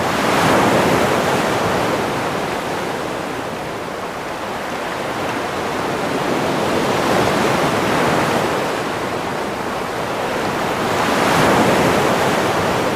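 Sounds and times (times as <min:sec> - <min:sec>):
sea waves breaking on shore: 0:00.0 - 0:12.9.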